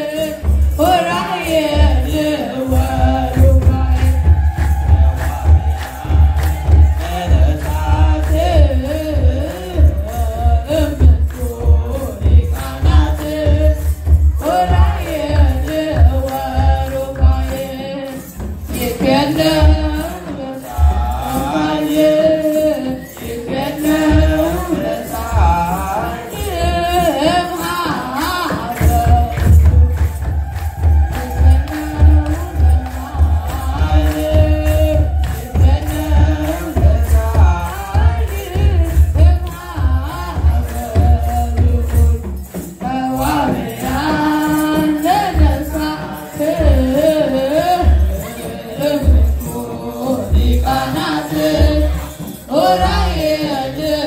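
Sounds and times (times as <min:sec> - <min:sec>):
group chanting a hymn: 0:00.0 - 0:42.2, 0:42.8 - 0:54.0
metal jingle of sistra: 0:00.0 - 0:54.0
steady hand drum beat: 0:00.0 - 0:54.0.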